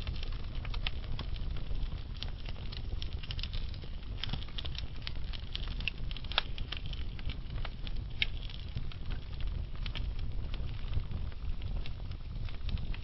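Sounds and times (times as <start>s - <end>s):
flames rumbling: 0.0s - 13.0s
wood fire crackling and popping: 0.0s - 13.0s.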